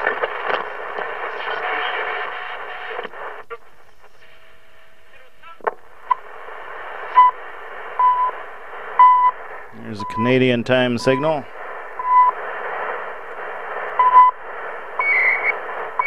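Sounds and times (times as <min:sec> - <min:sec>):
radio tuning sweep: 0:00.0 - 0:03.4, 0:06.1 - 0:16.0
radio broadcast in static: 0:00.0 - 0:16.0
radio hiss: 0:00.0 - 0:16.0.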